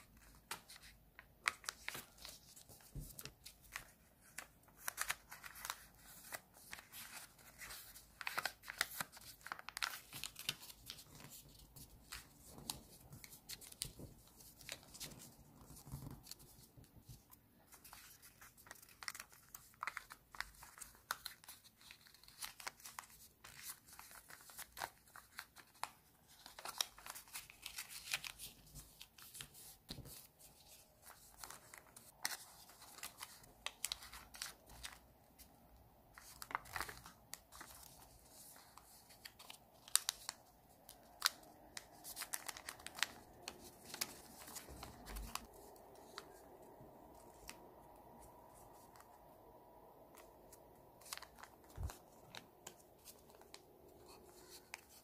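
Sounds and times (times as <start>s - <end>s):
paper being folded and creased: 0.0s - 35.5s, 36.1s - 49.3s, 50.1s - 55.0s.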